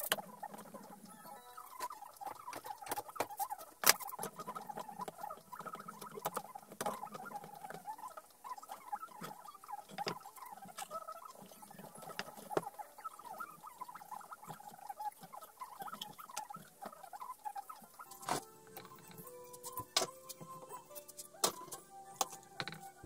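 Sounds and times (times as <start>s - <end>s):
small squeaks: 0.0s - 23.0s.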